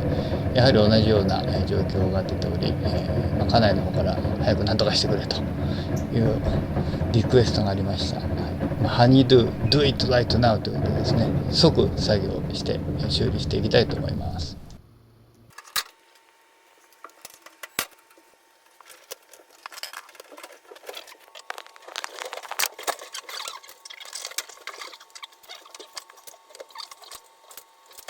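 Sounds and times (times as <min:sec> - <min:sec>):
small hard parts clicking and rattling: 0:00.0 - 0:14.8, 0:16.9 - 0:28.0.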